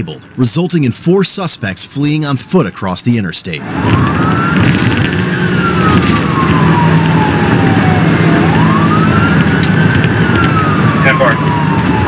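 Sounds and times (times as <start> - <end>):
car engine and road noise: 0.0 - 12.0
police siren wailing: 1.2 - 12.0.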